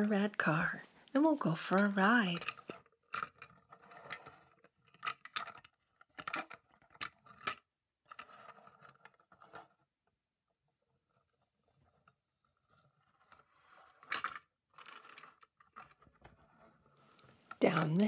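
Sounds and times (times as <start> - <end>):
plastic clicks and scrapes: 1.8 - 9.9, 11.0 - 17.6.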